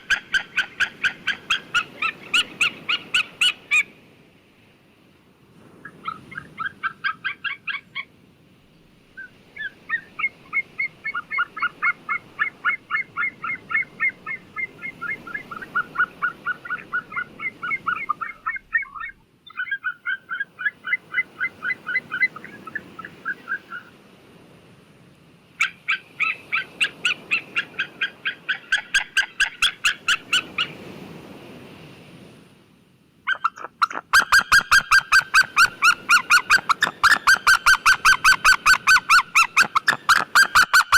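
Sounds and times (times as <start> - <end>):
eagle yelping calls: 0.0 - 3.9, 5.8 - 8.1, 9.2 - 23.9, 25.6 - 30.8, 33.3 - 40.9.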